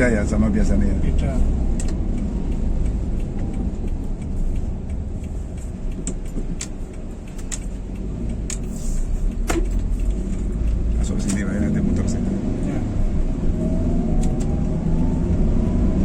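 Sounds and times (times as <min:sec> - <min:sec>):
engine and road rumble in car: 0:00.0 - 0:16.0.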